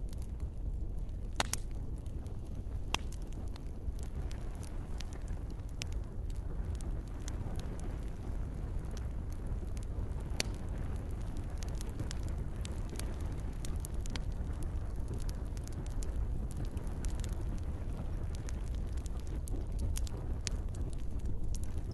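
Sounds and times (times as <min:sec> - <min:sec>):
campfire crackling and popping: 0:00.0 - 0:21.9
light rain: 0:04.1 - 0:21.9.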